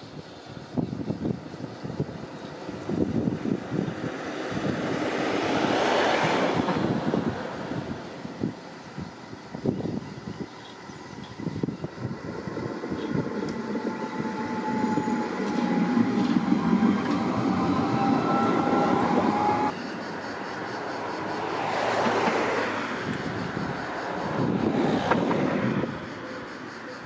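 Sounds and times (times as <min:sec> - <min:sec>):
tram rumbling past: 0:00.0 - 0:27.0
distant tram approaching: 0:00.3 - 0:27.0.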